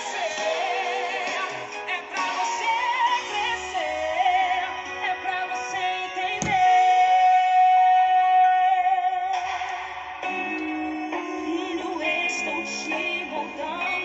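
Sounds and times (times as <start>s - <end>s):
song with singing voice: 0.0s - 14.0s.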